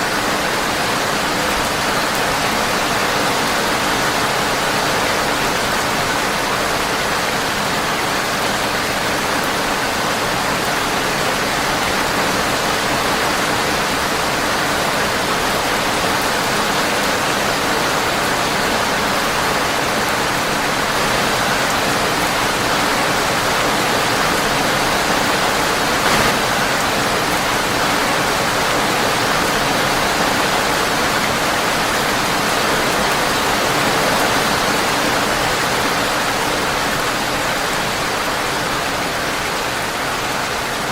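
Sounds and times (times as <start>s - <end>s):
rain tapping on a window: 0.0s - 40.9s.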